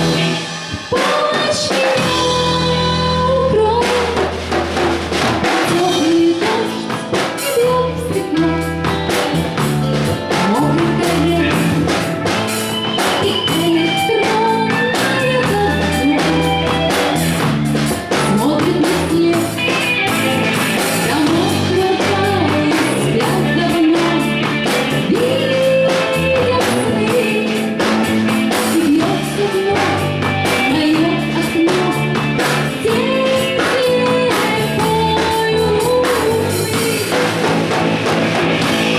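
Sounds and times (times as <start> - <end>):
person singing: 0.0 - 4.6, 5.4 - 37.6
live band playing: 0.0 - 38.9.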